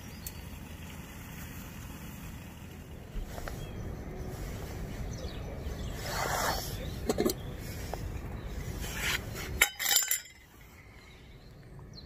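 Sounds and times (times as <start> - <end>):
stove burning with rushing hiss: 0.0 - 10.0.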